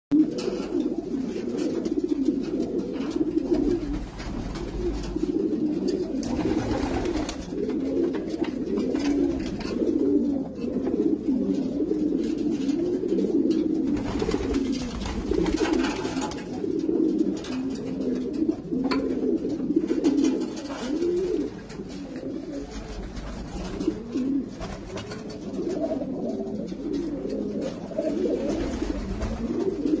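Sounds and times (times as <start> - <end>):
pigeons cooing: 0.1 - 30.0.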